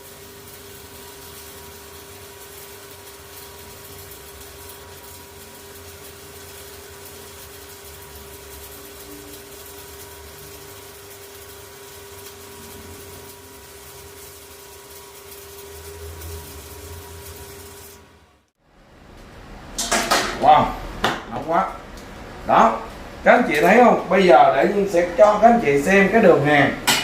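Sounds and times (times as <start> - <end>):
welding arc crackling hiss: 0.0 - 27.0.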